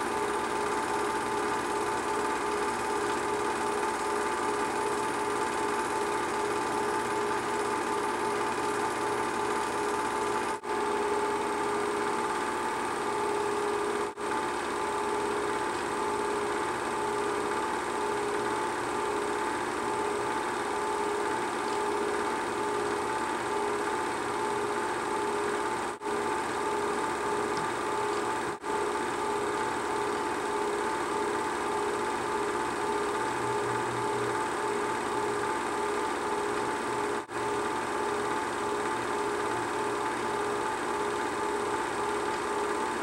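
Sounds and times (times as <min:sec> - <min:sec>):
film projector running: 0:00.0 - 0:43.0.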